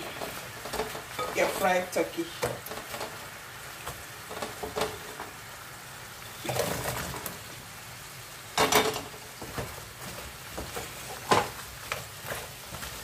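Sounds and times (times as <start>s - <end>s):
sauce sizzling in a frying pan: 0.0s - 13.0s
splashing sizzles: 0.0s - 13.0s.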